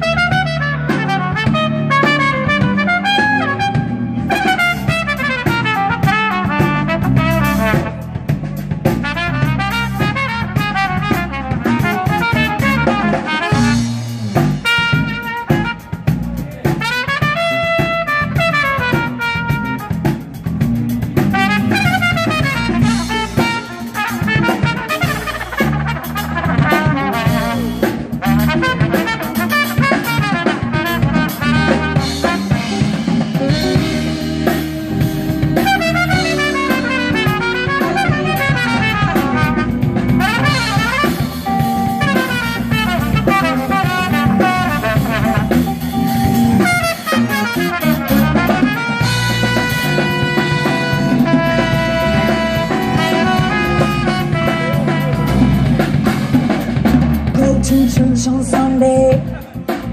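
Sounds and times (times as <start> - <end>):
bass guitar: 0.0 - 59.9
drum kit: 0.0 - 59.9
electric guitar: 0.0 - 59.9
saxophone: 0.0 - 59.9
trumpet: 0.0 - 59.9.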